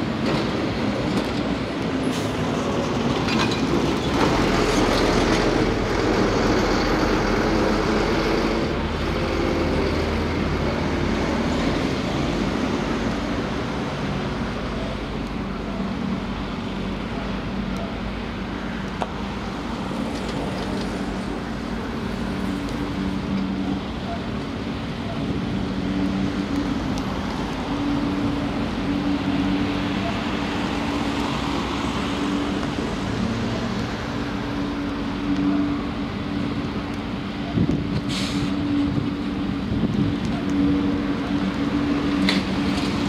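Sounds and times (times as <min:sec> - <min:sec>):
truck diesel engine rumble: 0:00.0 - 0:43.0.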